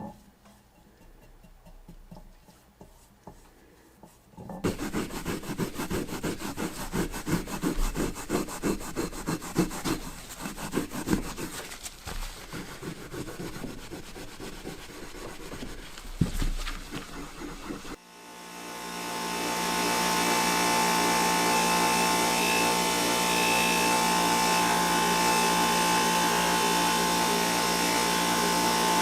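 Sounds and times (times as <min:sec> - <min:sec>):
hand tool rubbing on wood: 0:00.5 - 0:18.0, 0:19.5 - 0:29.0.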